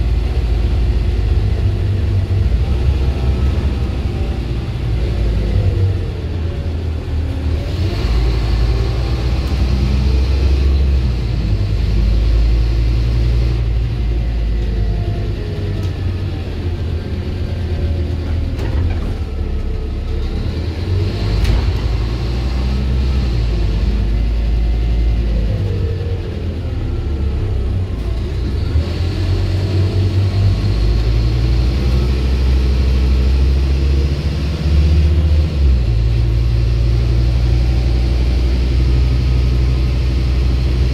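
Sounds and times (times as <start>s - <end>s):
bus engine rumble: 0.0s - 40.9s.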